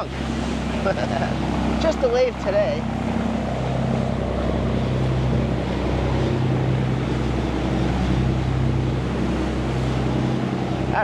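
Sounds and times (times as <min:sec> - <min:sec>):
motorboat engine droning: 0:00.0 - 0:11.0
water noise: 0:00.0 - 0:11.0
wind: 0:00.0 - 0:11.0.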